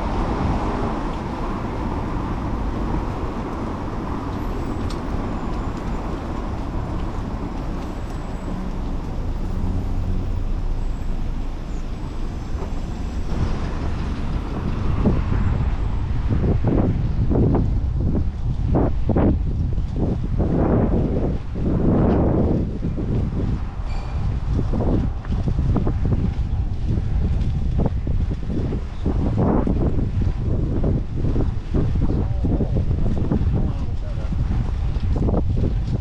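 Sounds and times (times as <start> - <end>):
city traffic noise: 0.0 - 36.0
wind rumbling on microphone: 0.0 - 36.0.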